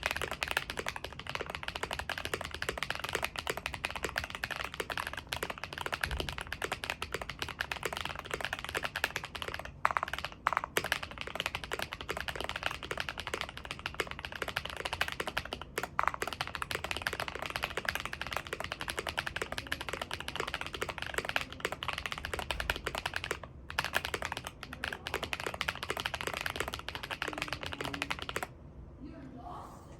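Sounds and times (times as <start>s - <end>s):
fast mechanical keyboard typing: 0.0s - 28.5s.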